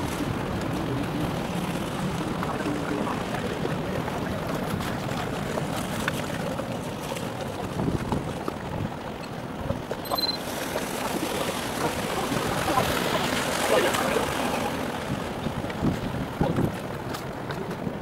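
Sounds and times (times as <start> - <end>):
water lapping: 0.0 - 18.0.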